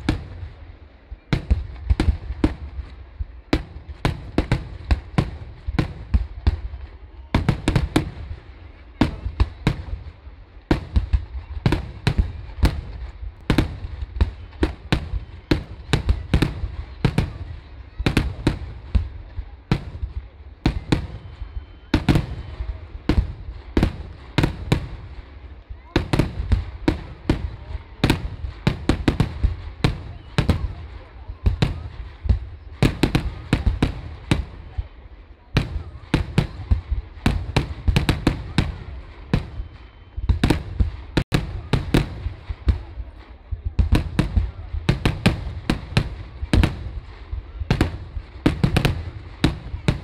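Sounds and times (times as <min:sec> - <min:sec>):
fireworks banging: 0:00.0 - 0:50.0.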